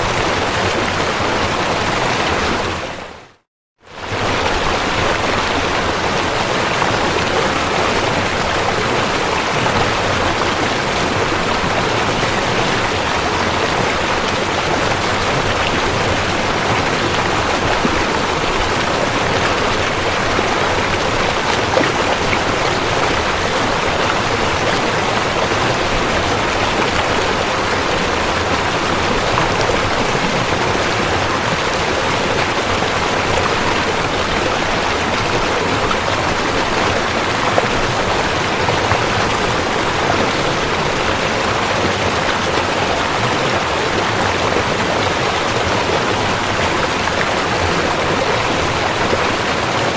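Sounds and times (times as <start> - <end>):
river rushing and splashing: 0.0 - 3.2, 3.9 - 49.9.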